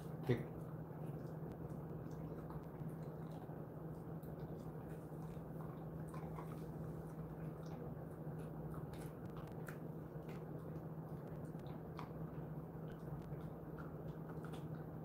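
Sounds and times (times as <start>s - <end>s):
dog chewing and licking: 0.0s - 15.0s
low hum: 0.0s - 15.0s.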